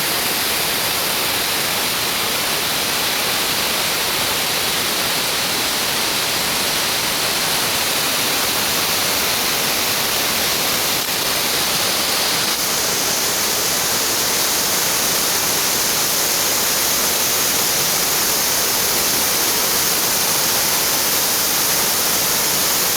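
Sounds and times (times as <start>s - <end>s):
waterfall: 0.0s - 22.9s.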